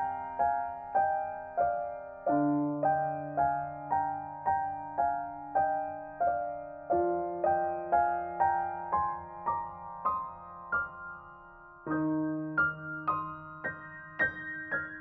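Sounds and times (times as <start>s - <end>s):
slow calm solo piano: 0.0s - 15.0s.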